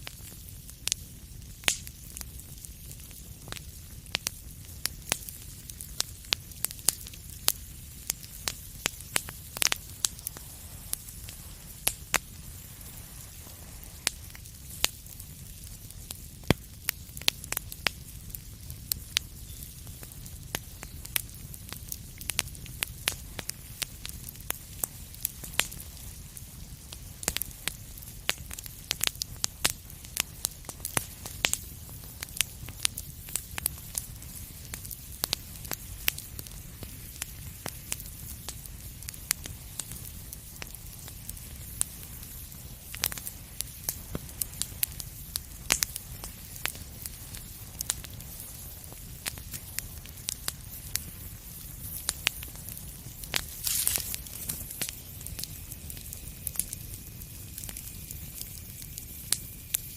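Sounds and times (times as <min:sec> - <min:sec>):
fire crackling and popping: 0:00.0 - 0:59.9
low steady fire rumble: 0:00.0 - 0:59.9.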